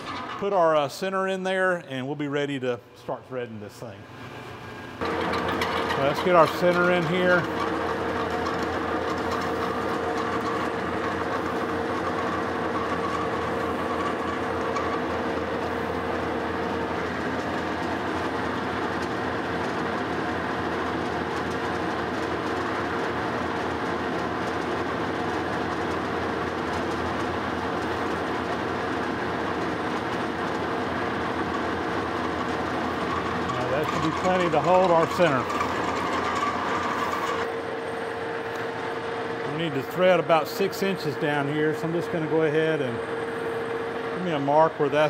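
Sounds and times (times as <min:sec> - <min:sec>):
metal lathe running: 0:00.0 - 0:01.0, 0:04.9 - 0:45.0
steady mechanical tone: 0:00.0 - 0:45.0.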